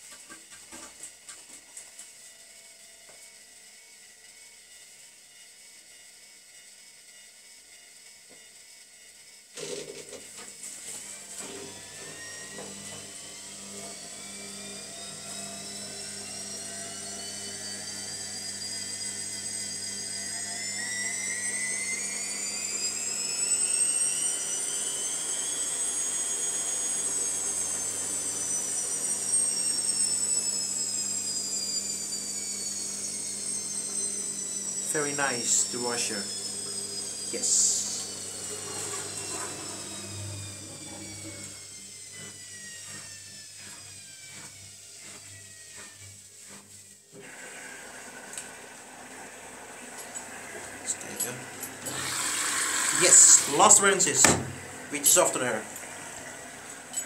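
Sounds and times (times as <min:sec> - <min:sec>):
washing machine spinning: 0:09.6 - 0:57.0.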